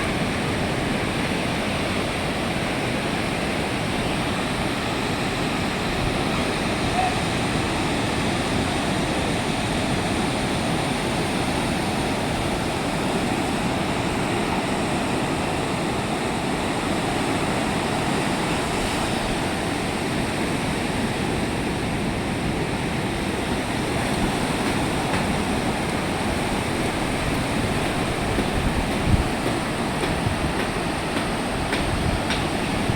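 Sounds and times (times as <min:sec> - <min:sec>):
sea surf roar: 0:00.0 - 0:32.9.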